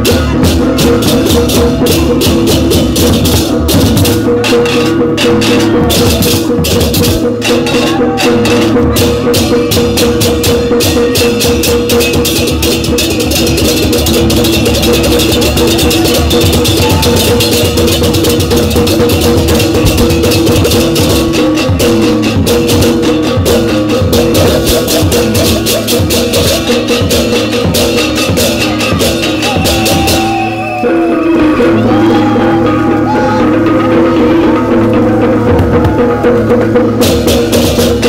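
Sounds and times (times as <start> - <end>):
cymbals clashing rapidly: 0.0 - 38.0
drums: 0.0 - 38.0.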